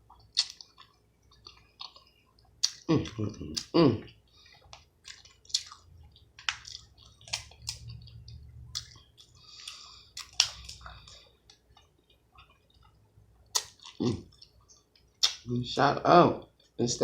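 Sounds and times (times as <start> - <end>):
wet squishy chewing: 0.0 - 15.5.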